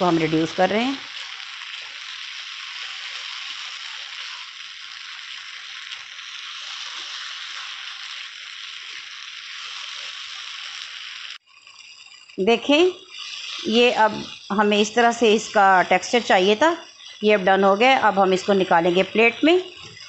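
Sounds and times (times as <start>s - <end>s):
filling sizzling in frying pan: 0.0s - 20.0s
spatula stirring in pan: 0.0s - 20.0s.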